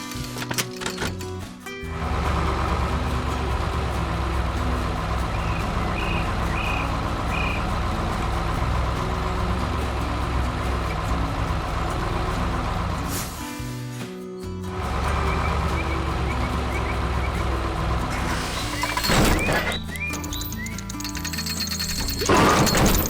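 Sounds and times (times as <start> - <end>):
heavy truck engine running: 0.0 - 13.8, 14.6 - 23.0.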